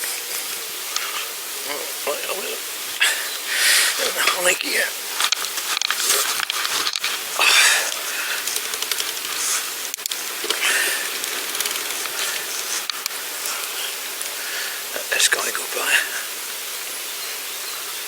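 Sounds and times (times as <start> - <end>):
bicycle tyres rolling on path: 0.0 - 15.4.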